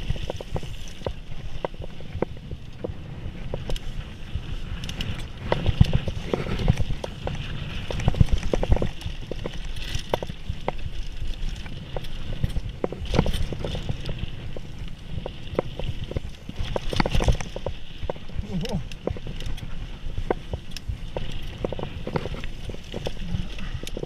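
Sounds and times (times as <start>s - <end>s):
bike clattering over bumps: 0.0s - 24.0s.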